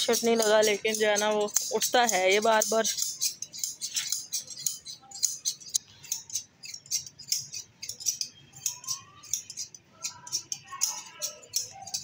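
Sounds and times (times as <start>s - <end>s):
scissors snipping wool: 0.1s - 12.0s.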